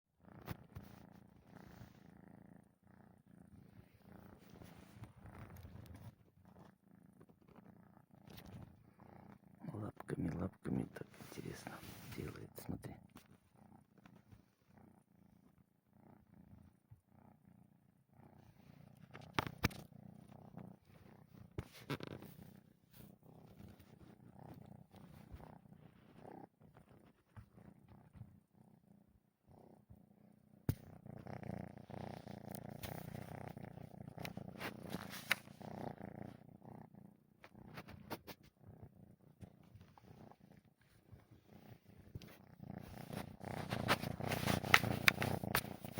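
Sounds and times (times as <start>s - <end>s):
kitten snoring softly: 0.2s - 45.9s.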